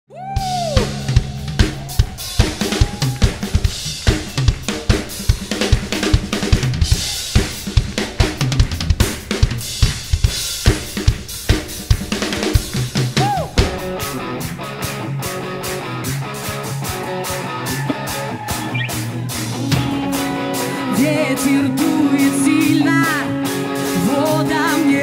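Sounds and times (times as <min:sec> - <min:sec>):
drum kit playing busy beat: 0:00.2 - 0:25.0.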